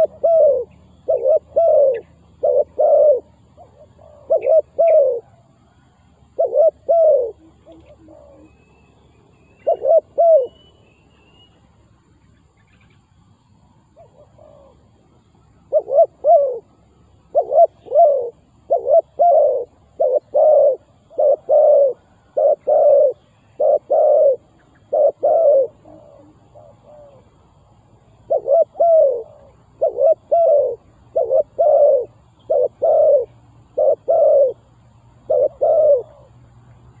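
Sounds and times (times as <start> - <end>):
dove cooing: 0.0 - 8.8, 9.5 - 10.7, 13.9 - 36.5.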